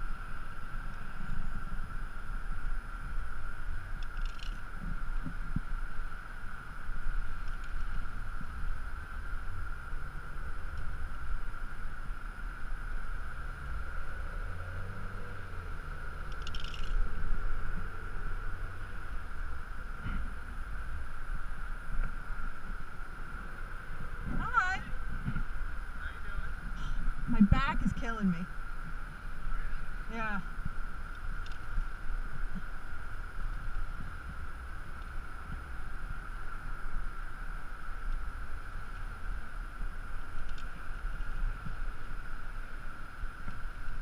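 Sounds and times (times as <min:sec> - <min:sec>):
steady high hum: 0:00.0 - 0:44.0
wind rumbling on microphone: 0:00.0 - 0:44.0.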